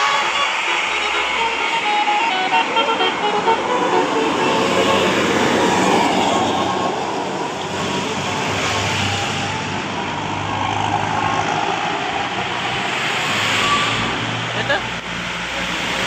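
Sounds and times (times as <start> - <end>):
bus engine hum: 0.0 - 16.0
road and traffic noise: 0.0 - 16.0.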